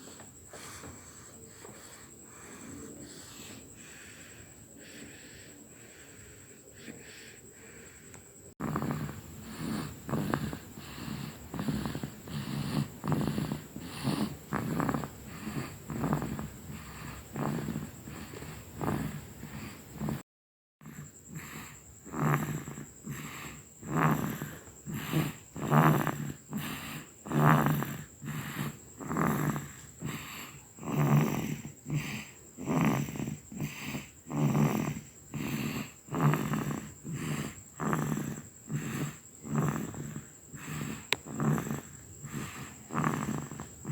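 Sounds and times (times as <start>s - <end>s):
baby snoring: 0.0s - 43.9s.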